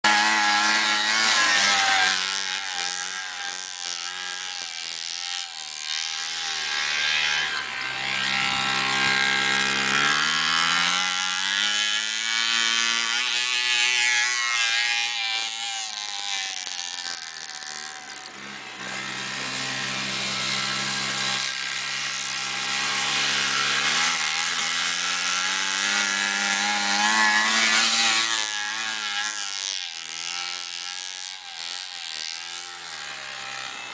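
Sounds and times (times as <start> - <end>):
snowmobile engine revving: 0.0 - 33.9.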